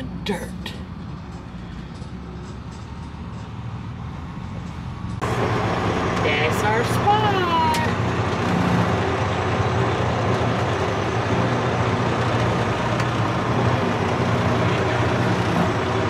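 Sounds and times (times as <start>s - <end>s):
truck engine running at low speed: 0.0s - 16.0s.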